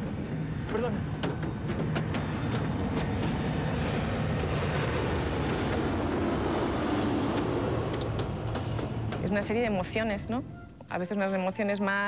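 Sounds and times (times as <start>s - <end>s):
airliner engines droning: 0.0s - 12.0s.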